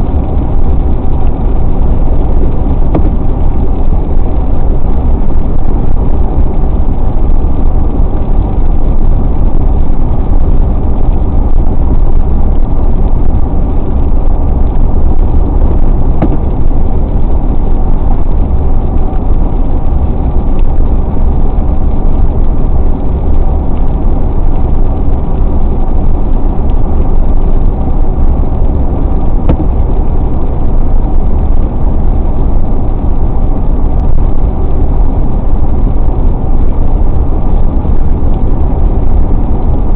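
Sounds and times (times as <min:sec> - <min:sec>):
car road noise from inside: 0:00.0 - 0:39.9.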